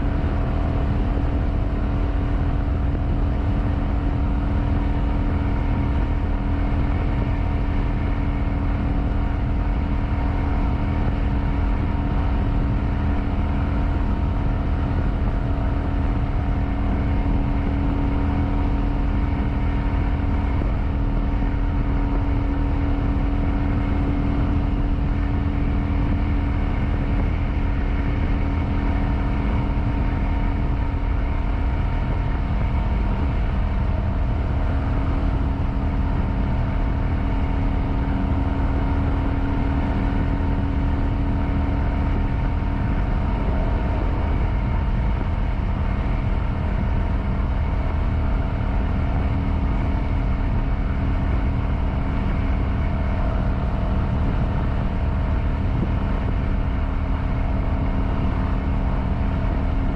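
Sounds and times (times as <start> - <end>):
motorcycle engine running steadily: 0.0 - 59.9
wind rumble on microphone: 0.0 - 59.9.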